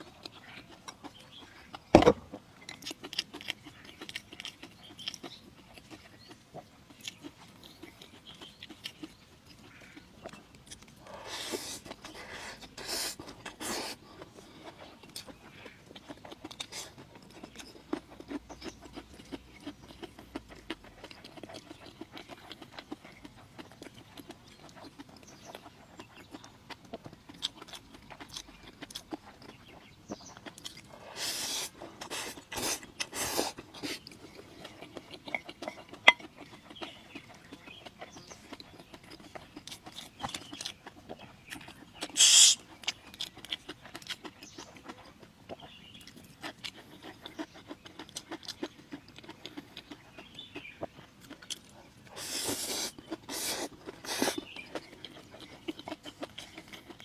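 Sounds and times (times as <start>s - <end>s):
person chewing and smacking: 0.0s - 57.0s.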